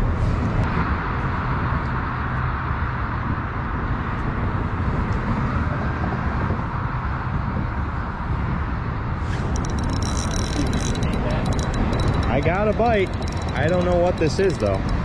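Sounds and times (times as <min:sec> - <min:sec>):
highway traffic rushing: 0:00.0 - 0:15.0.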